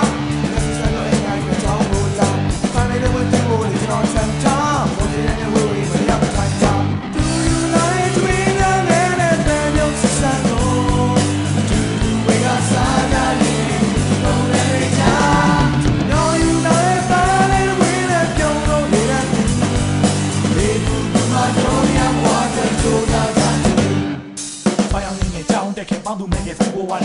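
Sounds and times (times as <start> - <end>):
man singing: 0.0 - 23.9, 24.7 - 27.0
rock band with keyboards: 0.0 - 27.0.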